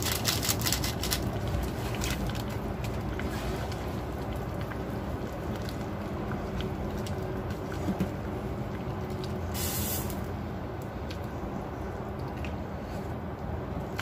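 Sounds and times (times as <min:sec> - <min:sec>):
soup boiling: 0:00.0 - 0:14.0.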